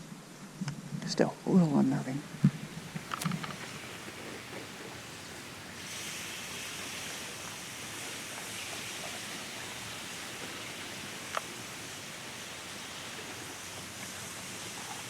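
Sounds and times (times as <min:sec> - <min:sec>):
stream of water rushing: 0:02.2 - 0:15.0.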